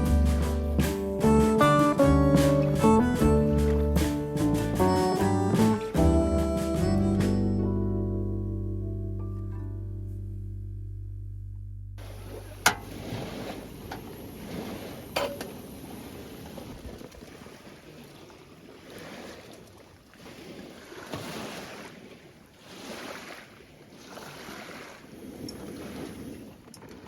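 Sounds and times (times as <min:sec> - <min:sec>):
water lapping: 0:00.0 - 0:07.4, 0:12.0 - 0:27.0
wind: 0:00.0 - 0:08.4, 0:12.0 - 0:27.0.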